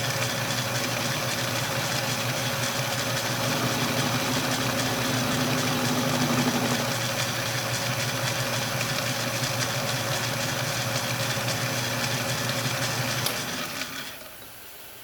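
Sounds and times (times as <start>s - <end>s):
metal lathe milling: 0.1s - 14.2s.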